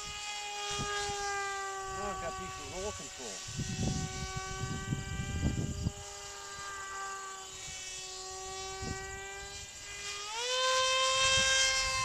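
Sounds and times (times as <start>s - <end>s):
model plane motor drone: 0.0s - 12.0s.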